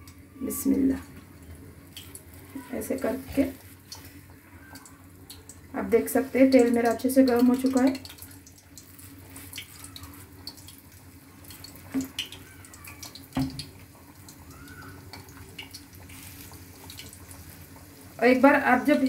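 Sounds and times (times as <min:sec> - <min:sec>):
batter sizzling in hot oil: 0:00.0 - 0:19.0.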